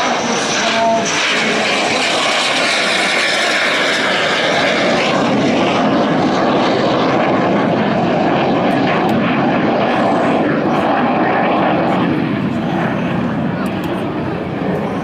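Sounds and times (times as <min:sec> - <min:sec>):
jet plane flying past: 0:00.0 - 0:15.0.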